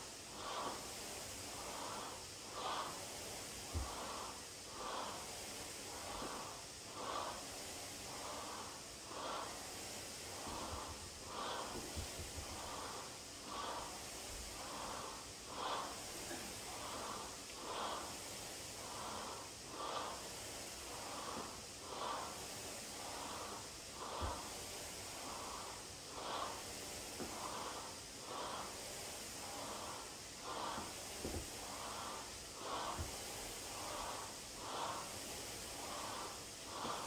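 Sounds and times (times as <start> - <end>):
person breathing hard: 0.0 - 37.0.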